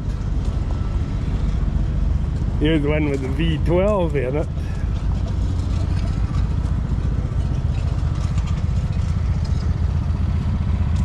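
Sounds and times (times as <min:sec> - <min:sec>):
engine idling with low pulse: 0:00.0 - 0:11.0.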